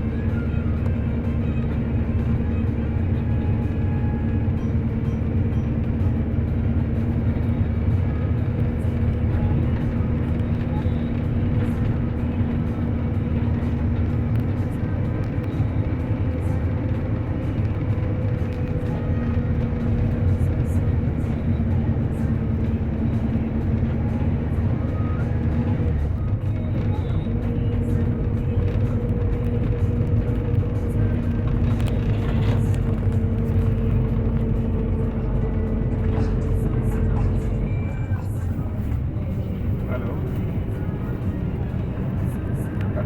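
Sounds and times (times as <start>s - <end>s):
constant hum: 0.0s - 43.0s
road rumble: 0.0s - 43.0s
vehicle engine drone: 0.0s - 43.0s.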